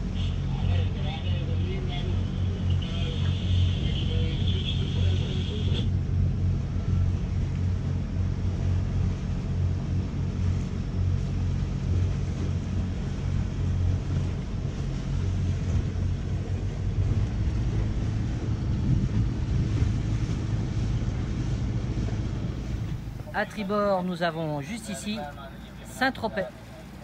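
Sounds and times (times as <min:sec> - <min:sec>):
boat diesel engine humming: 0:00.0 - 0:27.0.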